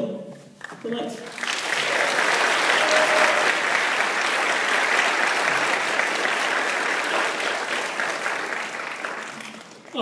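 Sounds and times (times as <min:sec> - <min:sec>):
audience applauding: 0:00.6 - 0:10.0.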